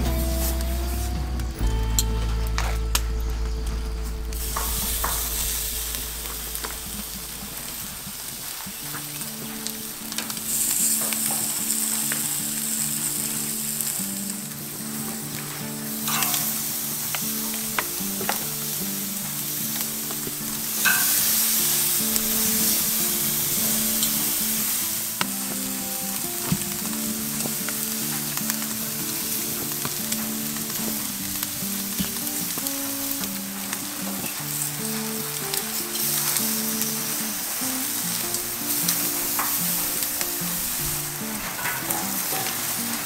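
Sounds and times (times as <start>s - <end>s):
meat sizzling on a grill: 0.0s - 1.0s, 4.3s - 43.0s
background music: 0.0s - 43.0s
crackles and pops: 0.0s - 43.0s.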